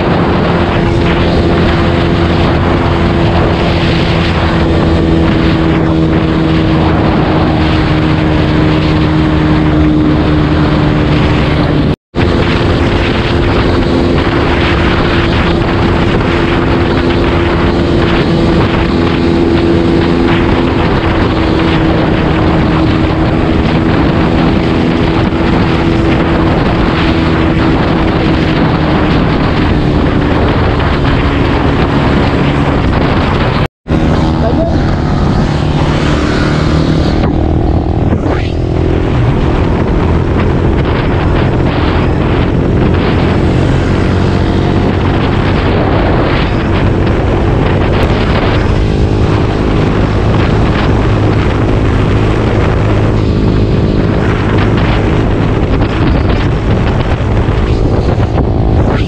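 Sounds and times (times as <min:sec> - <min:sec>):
motorcycle engine at high revs: 0:00.0 - 0:59.0
wind rushing over microphone: 0:00.0 - 0:59.0.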